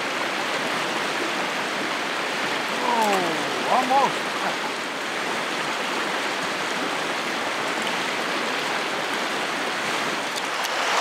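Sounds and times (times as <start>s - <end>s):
creek current rushing: 0.0s - 11.0s.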